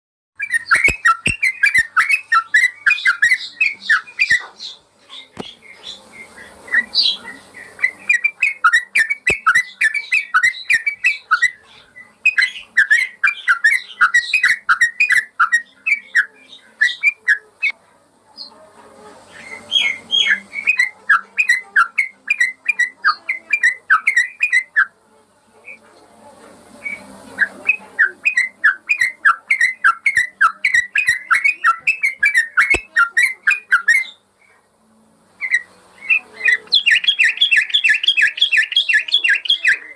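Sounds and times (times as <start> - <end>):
bird chattering song: 0.4 - 17.8, 19.3 - 25.0, 26.8 - 34.6, 35.4 - 39.9.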